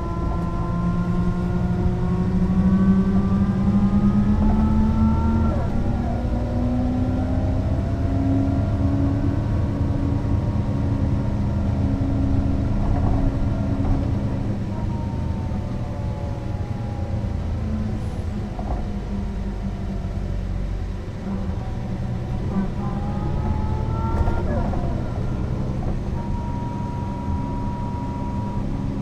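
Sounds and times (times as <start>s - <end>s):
bus diesel engine accelerating: 0.0s - 29.0s.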